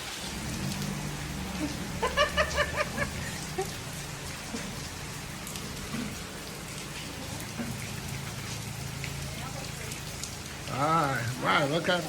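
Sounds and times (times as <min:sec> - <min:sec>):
heavy rain on a car roof: 0:00.0 - 0:12.0.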